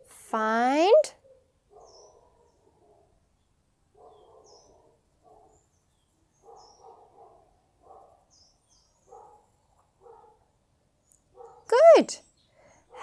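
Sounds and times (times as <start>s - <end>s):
birds chirping: 1.2s - 13.0s.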